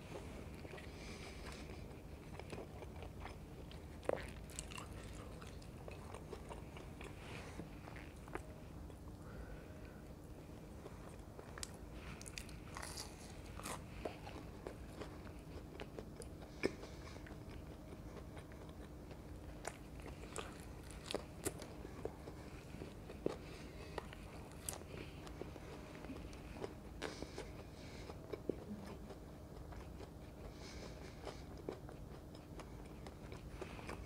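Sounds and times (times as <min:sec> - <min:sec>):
crunchy chewing of fried food: 0:00.0 - 0:34.0
faint steady hum: 0:00.0 - 0:34.0.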